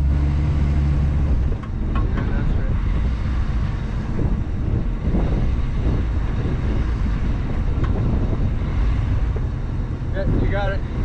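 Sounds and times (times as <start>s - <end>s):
car engine running at low speed: 0.0s - 11.0s
wind rumbling on microphone: 0.0s - 11.0s.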